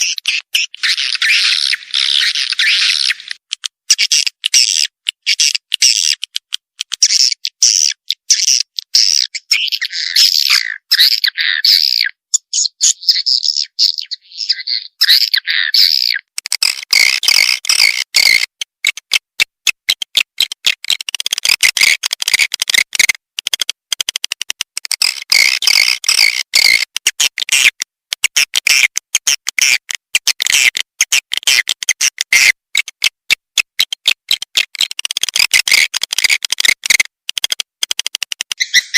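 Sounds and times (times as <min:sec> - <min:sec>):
recorded swiftlet chirps and clicks: 0:00.0 - 0:38.9.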